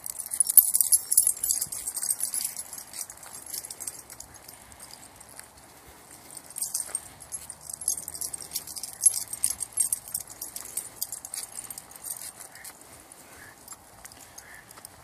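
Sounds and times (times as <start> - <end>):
dog tags jingling: 0.0 - 12.8, 13.6 - 15.0.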